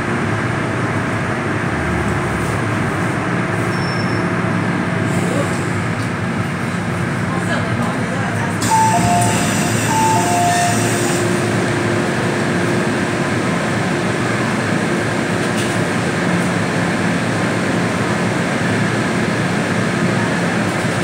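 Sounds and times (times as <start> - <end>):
train car hum: 0.0 - 21.0.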